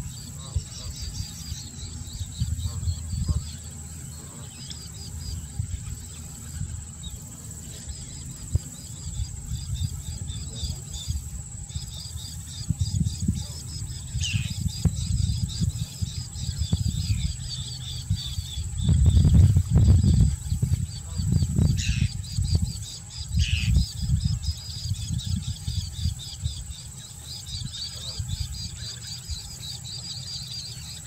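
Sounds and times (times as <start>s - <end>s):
steady high whine: 0.0s - 31.0s
wind rumbling on microphone: 0.0s - 31.0s.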